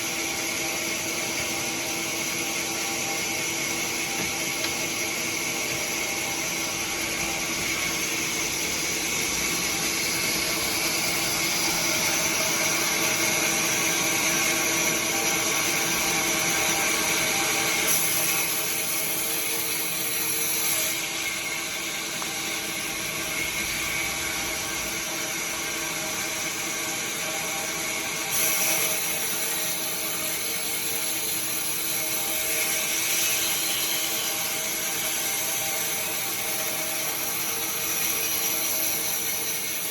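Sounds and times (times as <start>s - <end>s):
sawmill machinery whine and hum: 0.0s - 39.9s.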